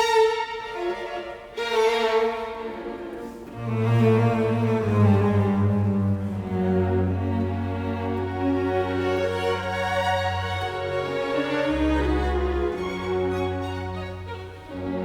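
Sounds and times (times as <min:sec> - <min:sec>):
held string-like notes: 0:00.0 - 0:15.0.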